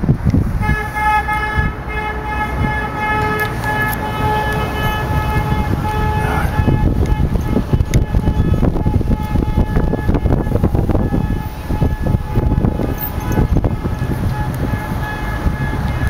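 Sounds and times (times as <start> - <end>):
wind buffeting microphone: 0.0 - 16.0
held horn-like tone: 0.6 - 16.0.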